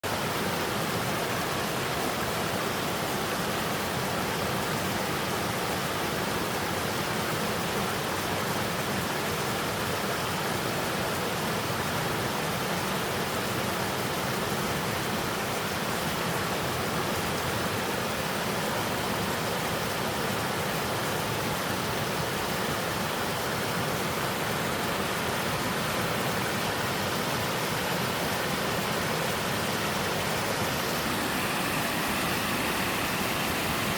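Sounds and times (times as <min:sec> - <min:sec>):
waterfall pouring over rocks: 0:00.0 - 0:33.9.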